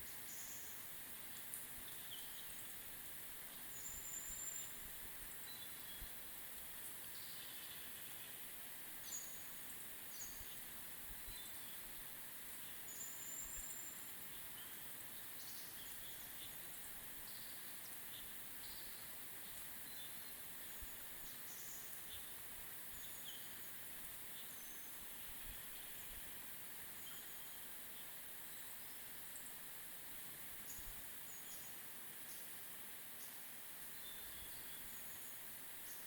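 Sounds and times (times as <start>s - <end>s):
small birds chirping: 0.0s - 29.7s, 30.3s - 36.0s
faint forest ambience hiss: 0.0s - 36.0s.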